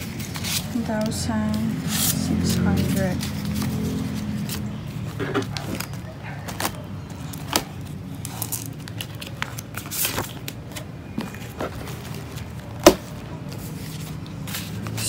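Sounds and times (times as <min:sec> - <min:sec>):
banknotes and plastic rustling: 0:00.0 - 0:15.0.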